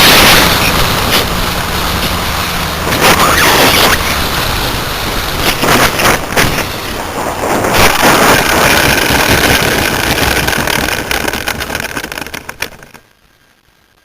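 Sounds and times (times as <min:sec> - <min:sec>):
electric motor and propeller whine: 0:00.0 - 0:13.2
rushing wind noise: 0:00.0 - 0:14.0.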